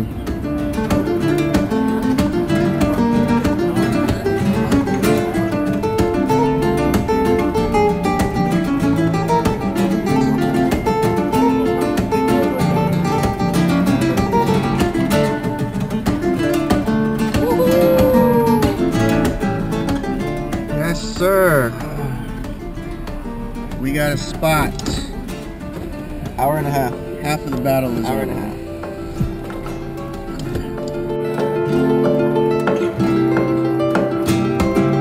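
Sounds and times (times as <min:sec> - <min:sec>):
flamenco acoustic guitar: 0:00.0 - 0:35.0.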